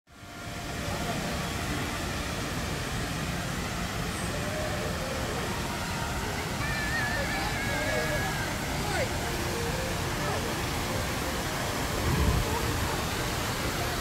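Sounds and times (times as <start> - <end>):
faint distant voices: 0.2 - 14.0.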